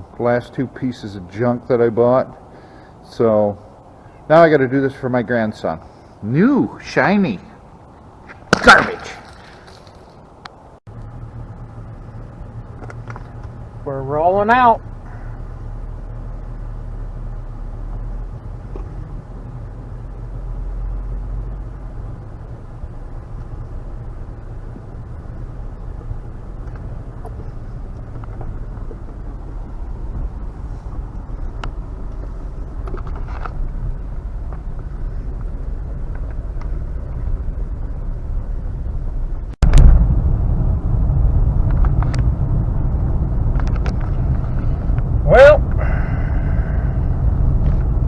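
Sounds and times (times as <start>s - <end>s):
vehicle engine and road rumble: 0.0s - 48.0s.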